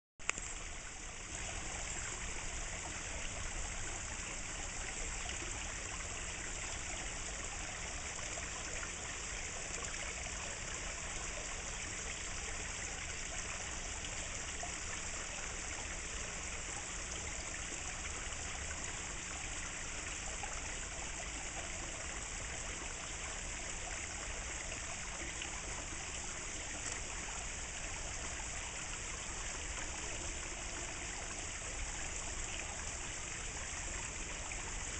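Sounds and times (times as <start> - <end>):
fountain water trickling into pond: 0.2 - 34.9.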